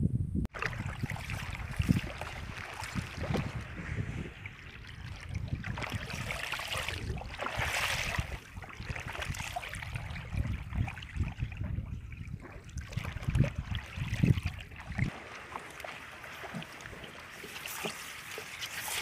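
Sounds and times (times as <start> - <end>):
water splashing and sloshing: 0.5 - 19.0.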